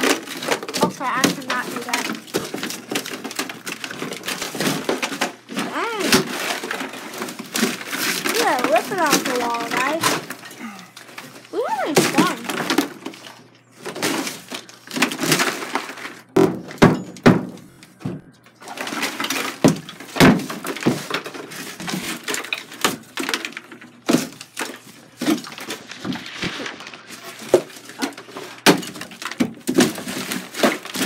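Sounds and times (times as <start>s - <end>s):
debris crumbling: 0.0s - 17.8s, 18.6s - 31.0s
drywall cracking and tearing: 0.0s - 17.9s, 18.6s - 31.0s.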